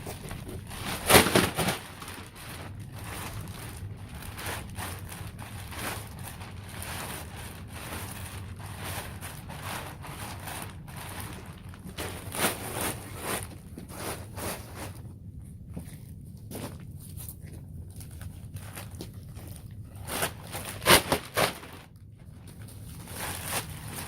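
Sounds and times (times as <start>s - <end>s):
crunching and scraping: 0.0s - 24.0s.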